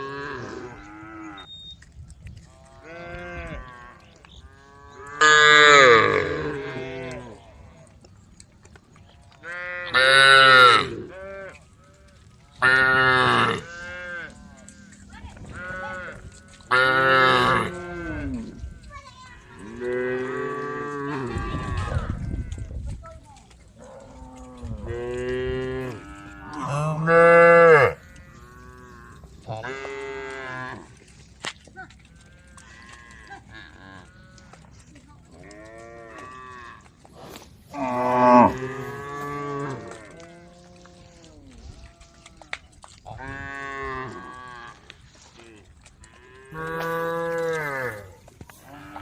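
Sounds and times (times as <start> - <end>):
cows mooing: 0.0 - 1.5, 2.6 - 7.6, 9.4 - 18.7, 19.4 - 22.6, 23.8 - 31.1, 32.1 - 34.6, 35.4 - 49.0.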